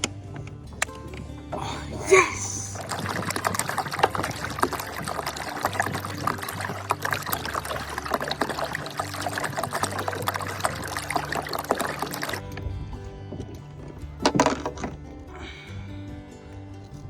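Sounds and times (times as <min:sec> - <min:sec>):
water trickling and splashing: 0:00.0 - 0:15.6
background music with bass line: 0:00.0 - 0:17.0.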